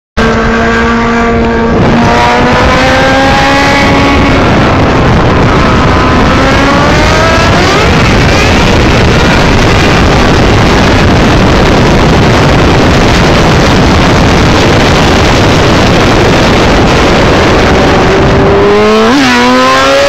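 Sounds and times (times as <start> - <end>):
motorcycle engine accelerating: 0.2 - 20.0
wind rush on microphone: 0.2 - 20.0.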